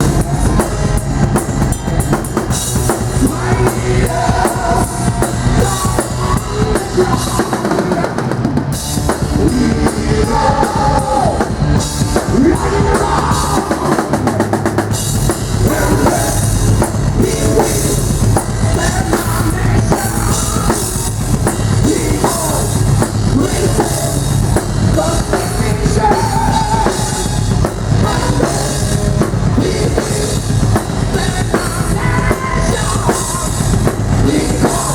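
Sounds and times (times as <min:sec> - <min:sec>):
bass drum and snare: 0:00.0 - 0:34.9
heavy metal band playing: 0:00.0 - 0:34.9.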